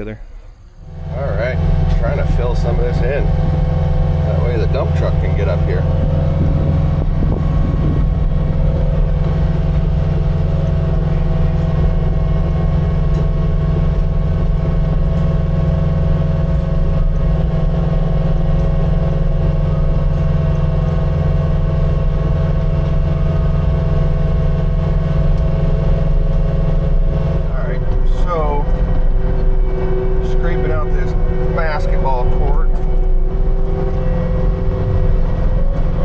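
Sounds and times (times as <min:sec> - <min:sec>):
diesel engine drone: 0:00.0 - 0:36.0.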